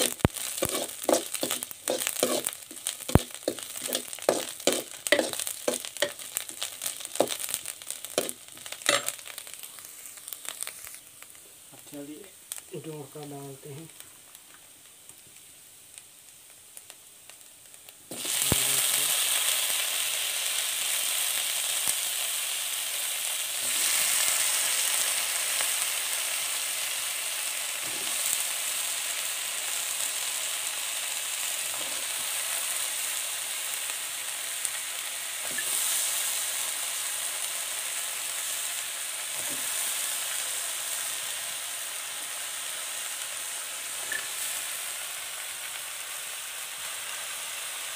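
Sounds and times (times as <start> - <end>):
vegetables sizzling in oil: 0.0 - 47.9.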